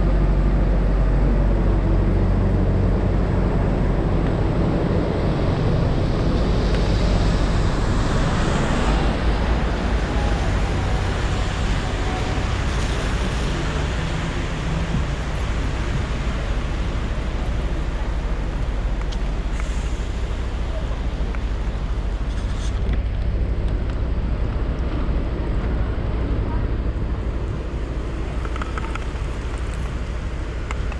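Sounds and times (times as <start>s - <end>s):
passing vehicles: 0.0s - 30.9s
wind rumble on microphone: 0.0s - 30.9s.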